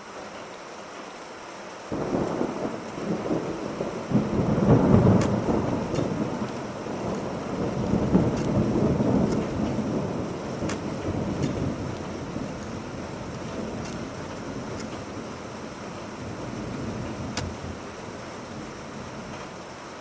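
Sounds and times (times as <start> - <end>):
rolling thunder: 1.9 - 19.4.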